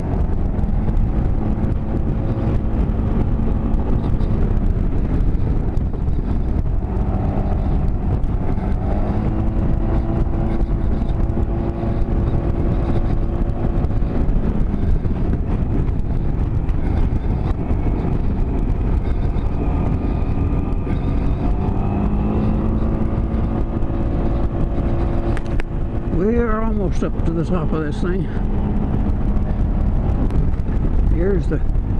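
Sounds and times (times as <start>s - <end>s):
motorcycle engine pulling uphill: 0.0s - 31.9s
wind rumble on microphone: 0.0s - 31.9s.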